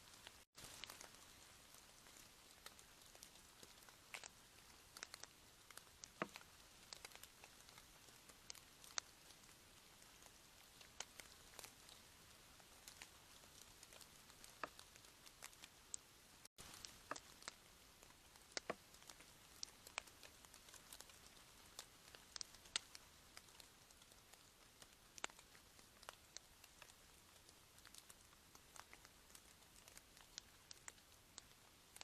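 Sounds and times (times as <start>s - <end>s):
faint hiss: 0.0s - 32.0s
raindrops dripping: 0.0s - 32.0s.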